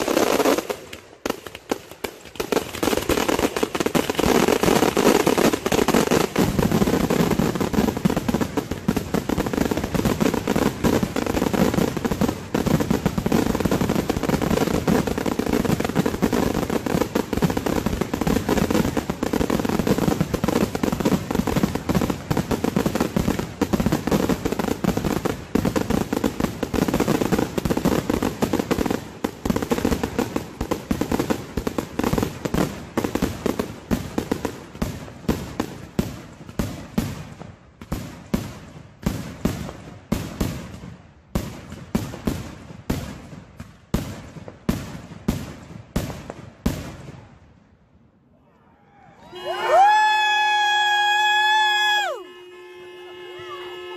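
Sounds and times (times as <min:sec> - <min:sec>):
fireworks bangs and crackles: 0:00.0 - 0:47.8.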